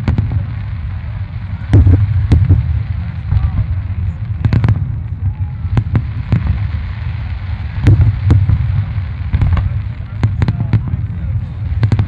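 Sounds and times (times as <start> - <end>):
fireworks booming: 0.0 - 12.0
sharp firework bangs: 0.0 - 12.0.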